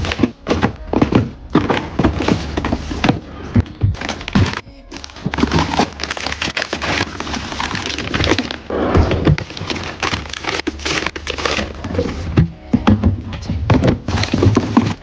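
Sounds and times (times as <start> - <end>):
packaging crackling: 0.0 - 12.4, 14.0 - 15.0.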